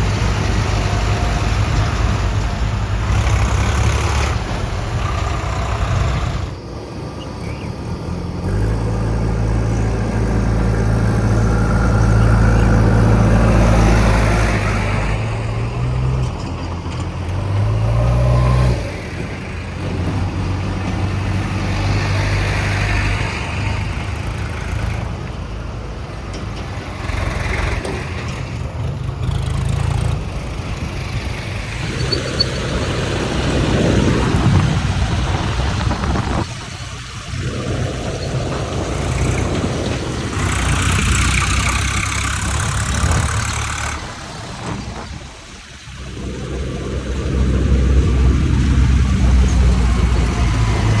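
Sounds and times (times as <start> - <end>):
diesel engine running under load: 0.0 - 51.0.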